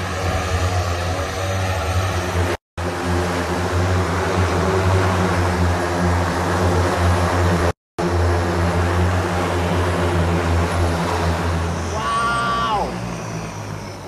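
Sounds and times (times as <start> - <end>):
multirotor propellers humming: 0.0 - 14.0.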